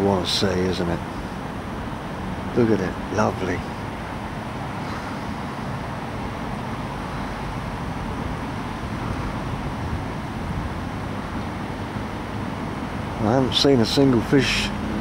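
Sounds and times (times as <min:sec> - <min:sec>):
strong wind buffeting microphone: 0:00.9 - 0:15.0.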